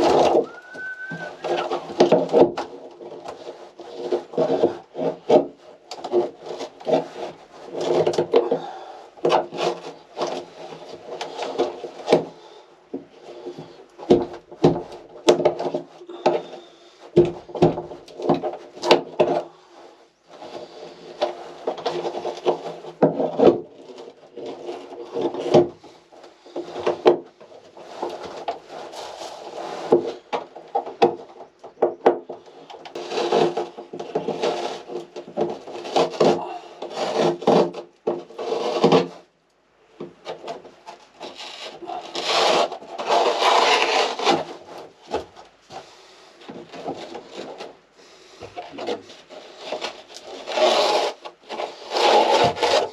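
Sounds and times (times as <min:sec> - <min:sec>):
wood being cut and scraped: 0:00.0 - 0:31.4, 0:32.2 - 0:39.3, 0:40.3 - 0:52.9.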